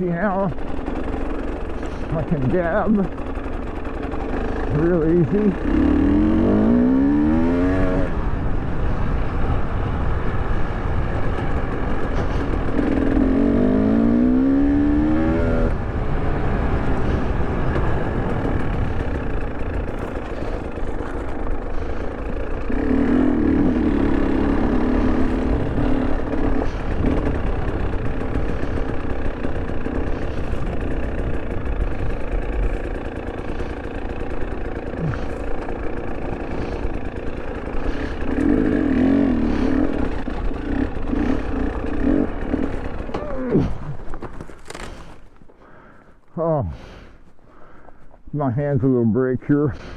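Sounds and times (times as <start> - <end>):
two-stroke motorcycle engine revving: 0.0 - 45.2
constant low rumble: 0.0 - 49.9.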